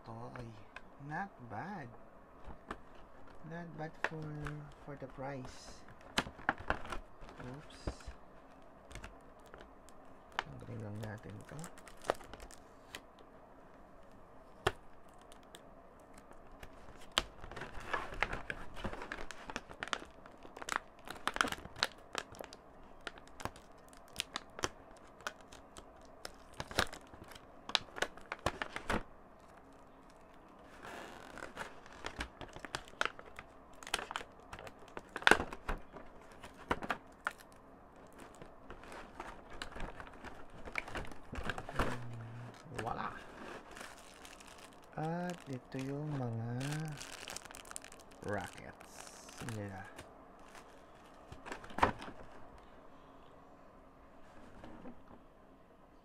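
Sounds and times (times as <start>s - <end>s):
plastic film crinkling and snapping: 2.4s - 52.6s.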